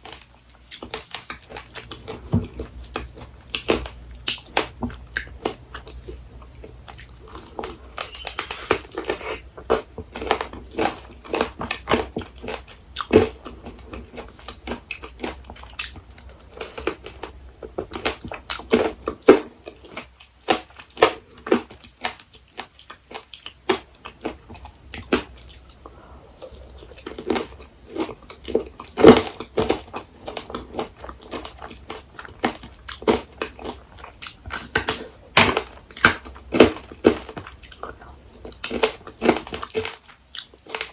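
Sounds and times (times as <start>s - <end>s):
crunching candied fruit: 0.0s - 40.9s.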